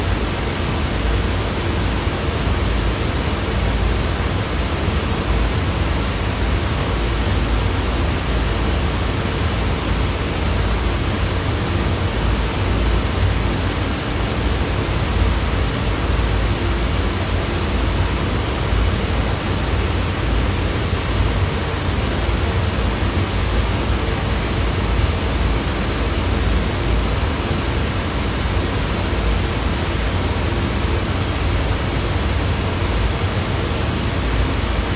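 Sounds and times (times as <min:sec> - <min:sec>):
white noise hiss: 0:00.0 - 0:34.9.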